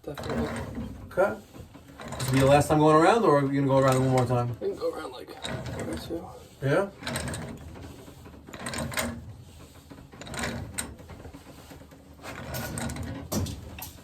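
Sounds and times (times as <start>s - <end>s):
pipe wrench grinding and creaking: 0.0s - 14.0s.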